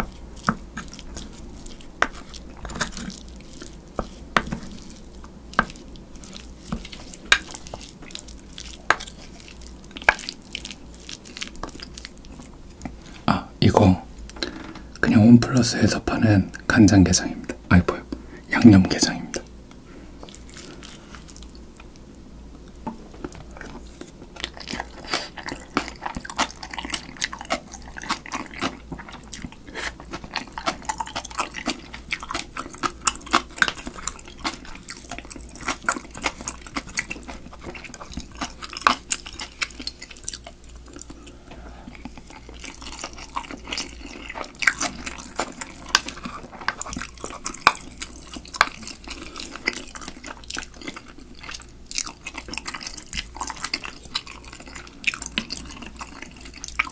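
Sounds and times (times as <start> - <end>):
chewing and wet mouth sounds: 0.0 - 56.9.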